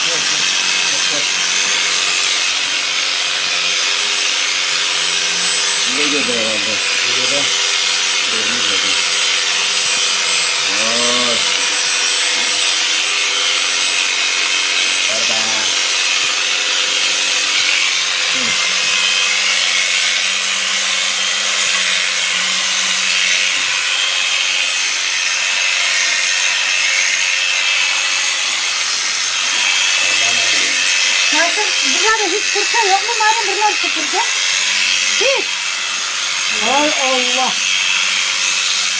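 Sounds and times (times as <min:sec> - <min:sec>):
electric shearing clipper running: 0:00.0 - 0:38.9.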